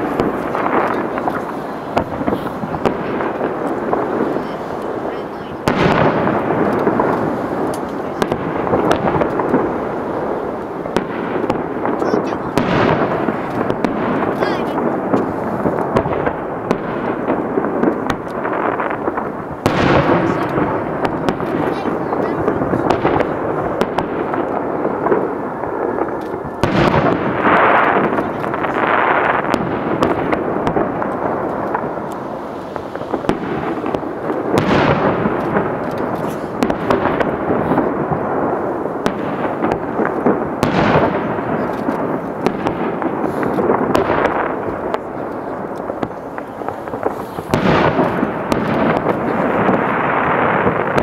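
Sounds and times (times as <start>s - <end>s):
crackling: 0.0s - 51.0s
fireworks bursting: 0.0s - 51.0s.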